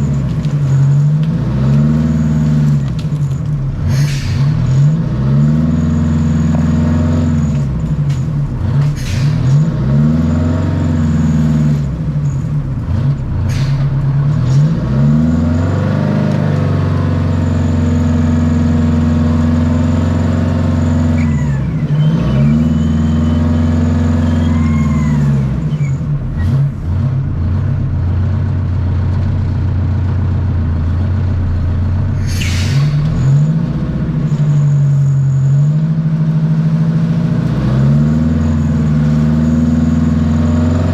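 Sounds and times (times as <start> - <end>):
diesel engine under load: 0.0 - 40.9.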